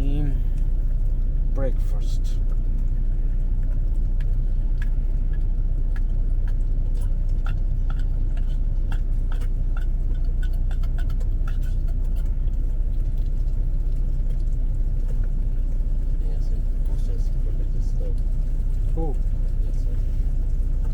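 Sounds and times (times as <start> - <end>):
semi-truck engine idling: 0.0 - 20.9
light clicks and ticks: 0.5 - 20.9.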